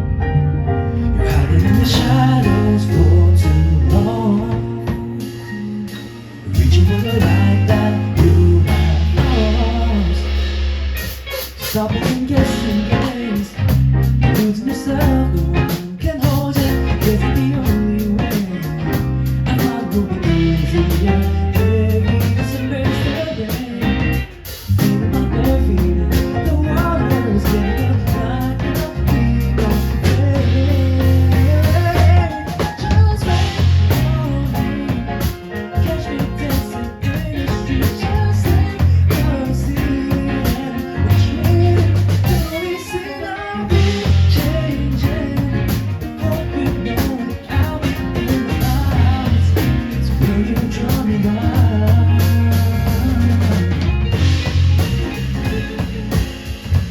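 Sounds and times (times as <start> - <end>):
live band playing pop: 0.0 - 56.9.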